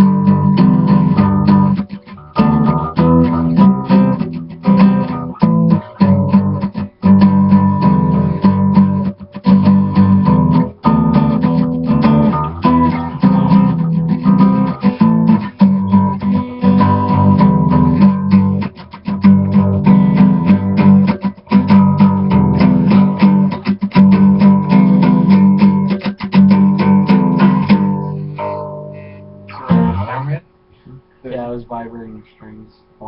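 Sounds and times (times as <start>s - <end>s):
distorted guitar strumming: 0.0s - 30.8s.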